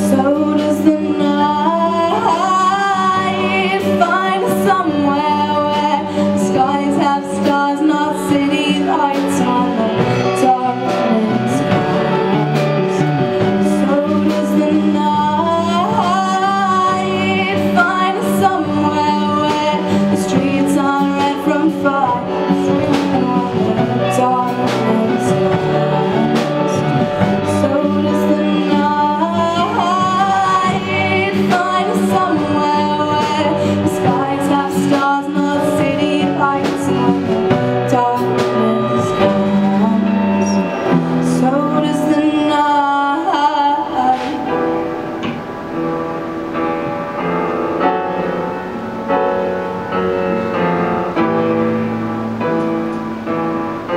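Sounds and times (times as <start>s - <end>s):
woman singing: 0.0s - 45.4s
electric guitars: 0.0s - 53.9s.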